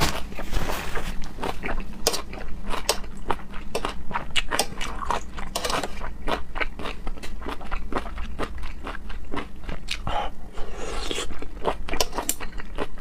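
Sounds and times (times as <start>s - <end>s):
person chewing with crisp crunches: 0.0s - 13.0s.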